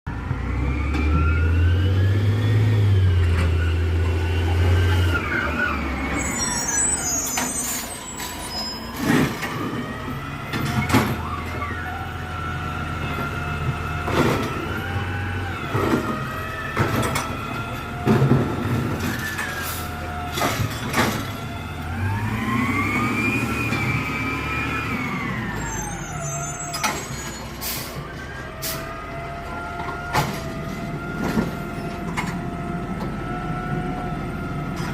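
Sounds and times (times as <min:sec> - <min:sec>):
garbage truck diesel engine whine: 0:00.1 - 0:34.9.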